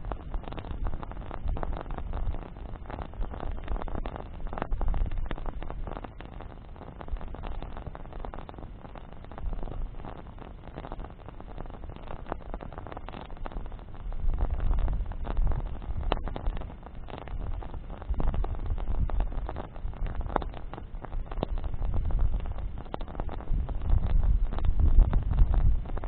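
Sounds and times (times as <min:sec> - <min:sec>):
bonfire crackling with sharp pops: 0:00.0 - 0:26.0
wind rumbling on microphone: 0:00.0 - 0:26.0.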